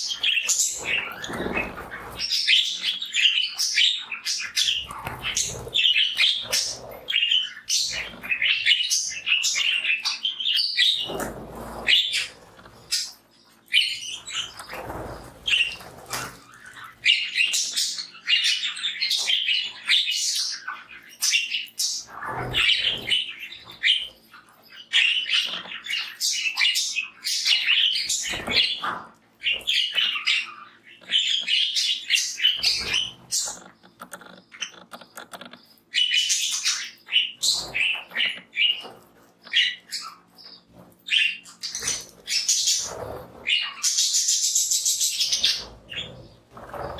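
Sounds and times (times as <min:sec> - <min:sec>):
budgies chattering and chirping: 0:00.0 - 0:46.9.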